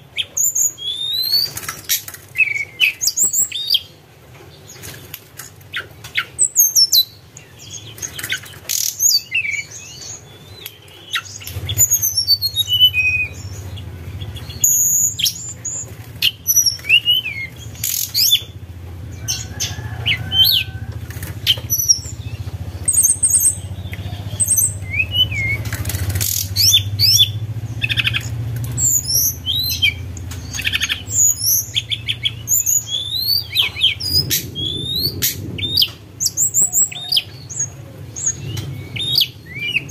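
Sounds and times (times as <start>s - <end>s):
bird singing whistled song: 0.2s - 1.6s, 2.4s - 3.9s, 5.8s - 18.5s, 21.4s - 39.9s.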